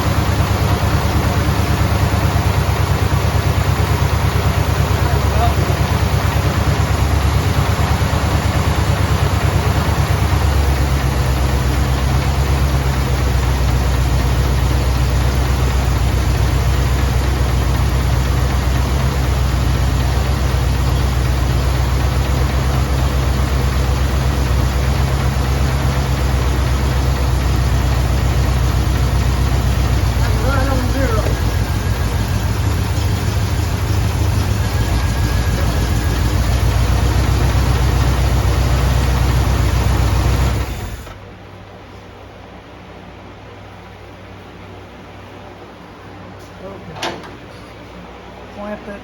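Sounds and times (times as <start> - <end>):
engine idling with misfire: 0.0 - 42.6.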